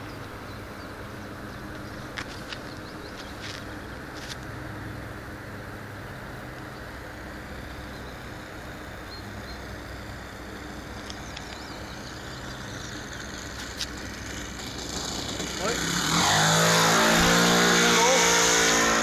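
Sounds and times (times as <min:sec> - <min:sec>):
distant model airplane engine: 0:00.0 - 0:19.0.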